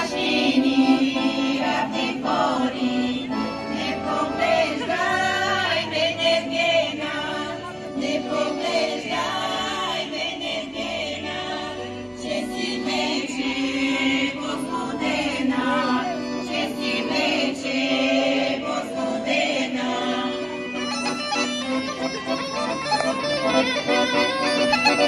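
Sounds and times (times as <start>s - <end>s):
women's choir singing in harmony: 0.0s - 20.6s
accordion: 0.0s - 25.0s.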